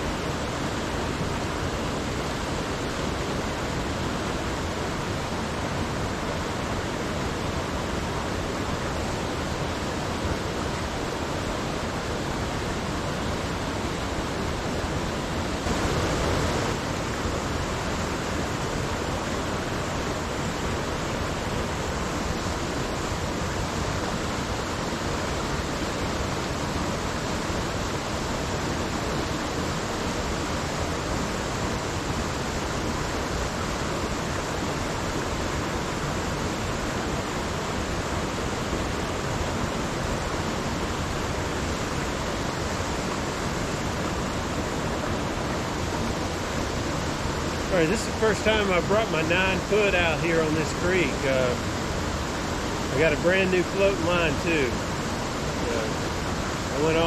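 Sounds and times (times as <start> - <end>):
creek water flowing: 0.0 - 57.0.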